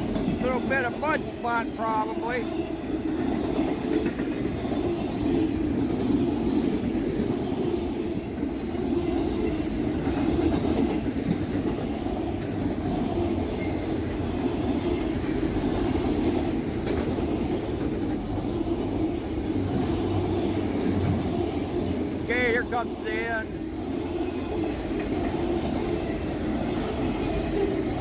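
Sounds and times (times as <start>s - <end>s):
freight train wheels on track: 0.0s - 28.0s.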